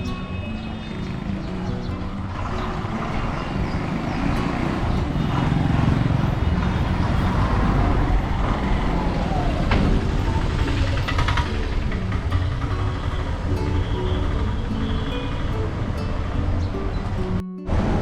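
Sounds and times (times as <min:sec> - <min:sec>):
engine low rumble: 0:00.0 - 0:17.4
road traffic: 0:00.0 - 0:18.0.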